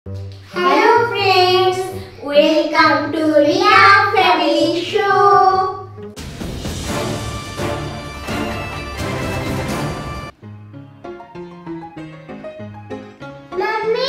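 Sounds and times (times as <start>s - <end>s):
lively background music: 0.1s - 14.0s.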